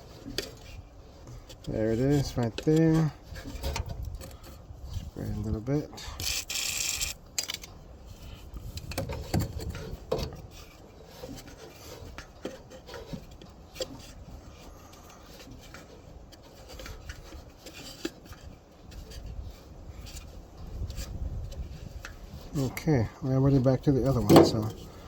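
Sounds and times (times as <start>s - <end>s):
hands tapping and rubbing on engine: 0.0s - 5.8s, 8.6s - 25.0s.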